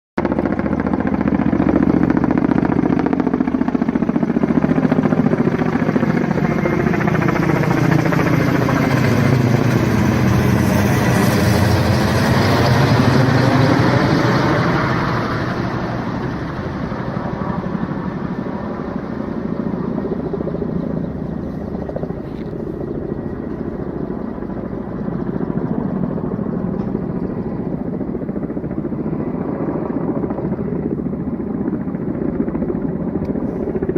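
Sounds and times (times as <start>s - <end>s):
helicopter rotor and turbine: 0.2s - 33.9s.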